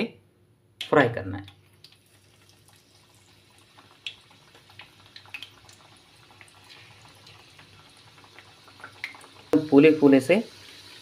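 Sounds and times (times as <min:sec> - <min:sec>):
pastries sizzling in hot oil: 0:01.7 - 0:11.0.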